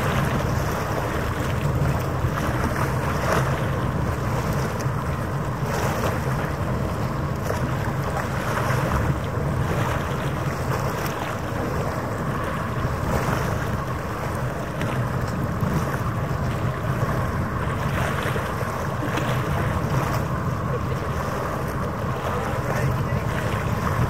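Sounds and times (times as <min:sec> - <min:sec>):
ferry engine drone: 0:00.0 - 0:24.0
wind buffeting microphone: 0:00.0 - 0:24.0.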